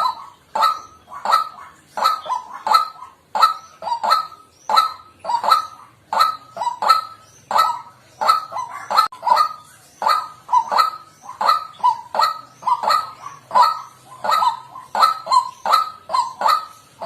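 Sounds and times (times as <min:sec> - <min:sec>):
bird croaking calls: 0:00.0 - 0:17.0.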